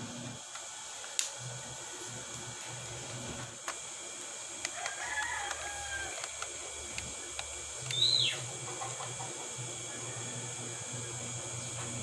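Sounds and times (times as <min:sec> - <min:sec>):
small electric motors humming: 0:00.0 - 0:12.0.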